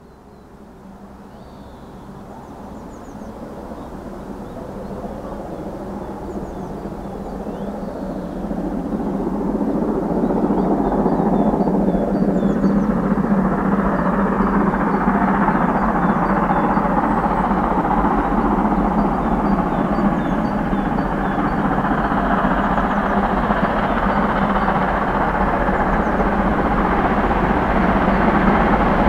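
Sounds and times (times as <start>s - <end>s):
steam locomotive hauling train: 0.0s - 29.0s.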